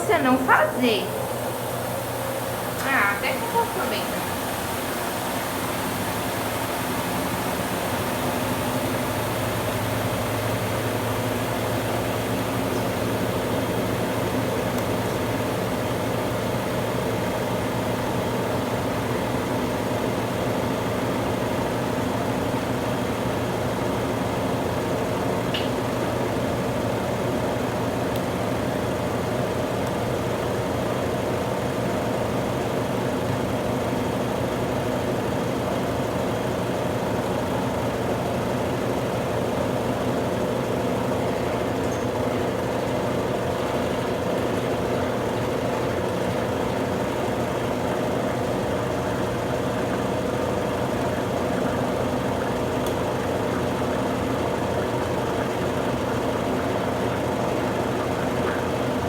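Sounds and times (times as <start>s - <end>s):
washing machine spinning hum: 0.0s - 59.0s.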